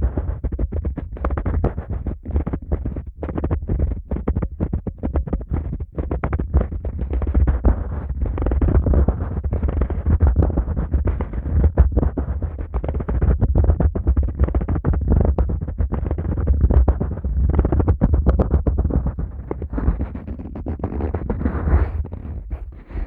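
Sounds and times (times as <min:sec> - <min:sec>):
fingers rubbing microphone: 0:00.0 - 0:23.0.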